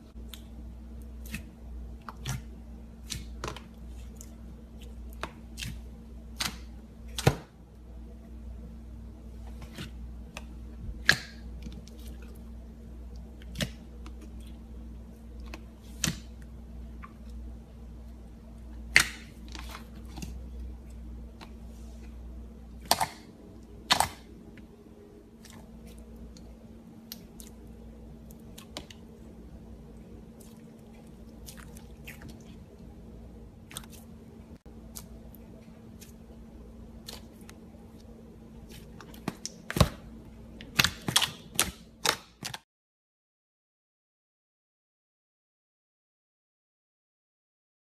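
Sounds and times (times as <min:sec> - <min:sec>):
faint steady hum: 0:00.0 - 0:42.6.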